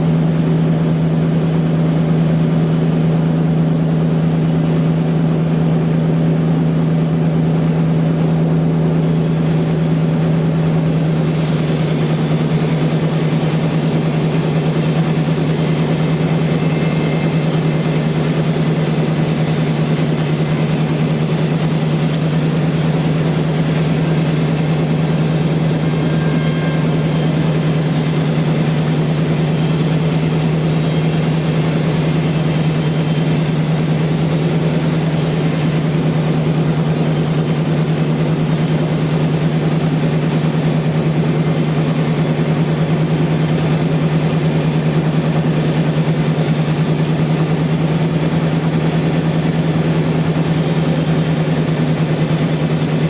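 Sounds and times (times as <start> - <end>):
sawmill machinery humming: 0.0 - 53.0.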